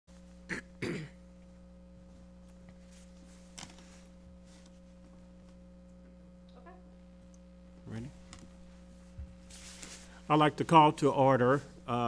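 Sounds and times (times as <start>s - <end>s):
sound system electrical hum: 0.1s - 12.0s.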